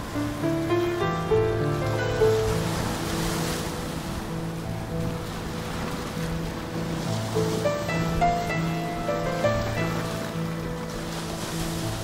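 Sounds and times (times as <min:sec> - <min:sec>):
ambient music: 0:00.0 - 0:12.0
waves breaking over rocks: 0:00.0 - 0:12.0.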